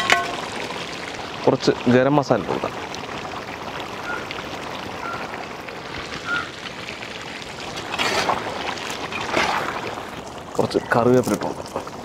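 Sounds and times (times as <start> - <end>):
pot bubbling: 0.0 - 12.0.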